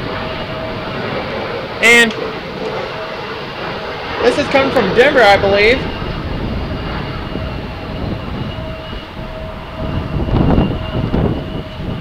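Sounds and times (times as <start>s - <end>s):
distant jet engine rumble: 0.0s - 12.0s
wind buffeting microphone: 0.0s - 12.0s.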